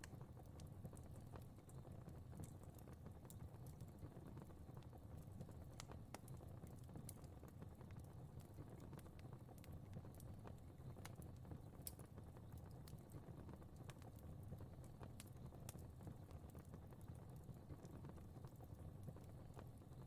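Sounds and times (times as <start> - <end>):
fire crackling faintly: 0.0 - 20.0.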